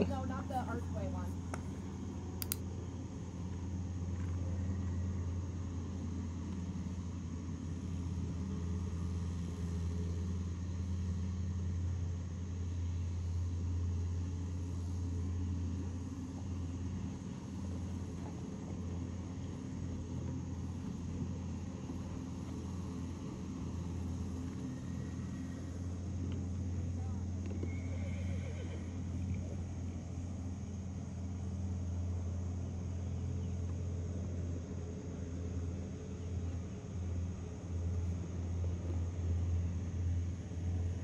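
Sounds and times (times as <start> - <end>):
faint high whine: 0.0 - 41.0
low motor hum: 0.0 - 41.0.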